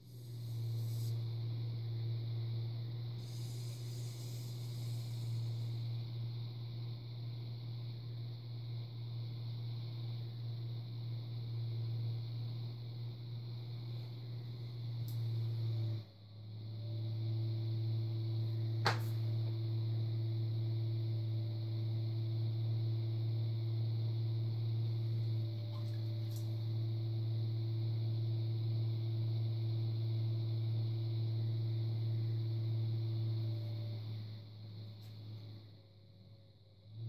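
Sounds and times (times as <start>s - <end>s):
pottery wheel humming: 0.0s - 37.0s.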